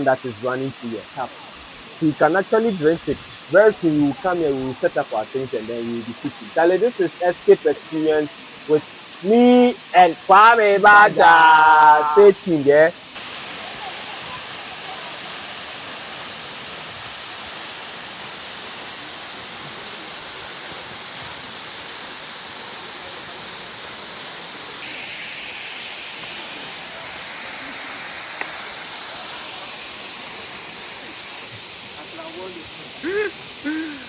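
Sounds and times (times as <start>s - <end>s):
waterfall rushing over rock: 0.0s - 34.0s.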